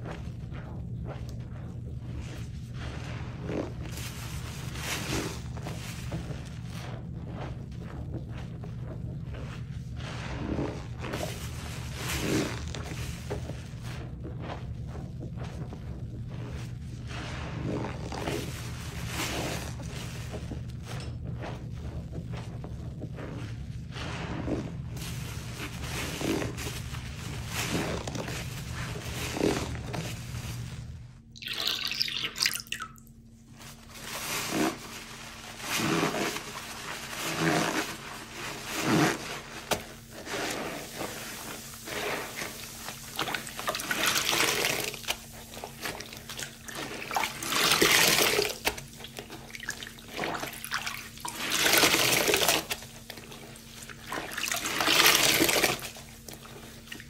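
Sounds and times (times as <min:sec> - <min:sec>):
sponge squelching in water: 0:00.0 - 0:57.0.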